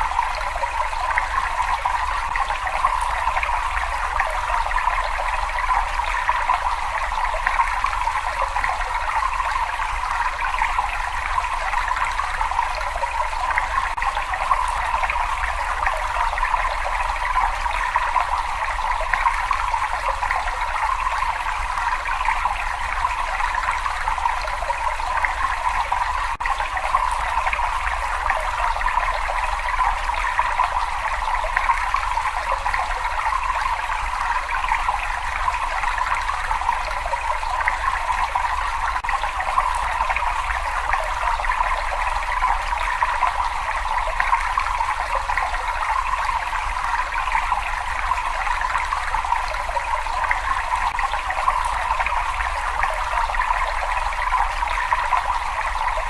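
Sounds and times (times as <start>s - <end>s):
water trickling in a cave: 0.0s - 56.0s.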